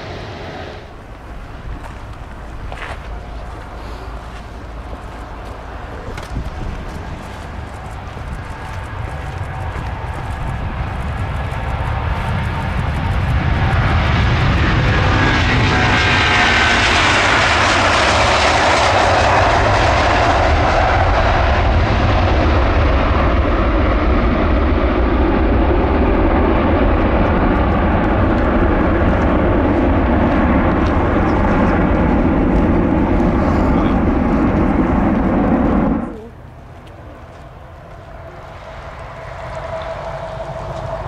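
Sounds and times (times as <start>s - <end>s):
jet engine noise: 0.0s - 41.0s.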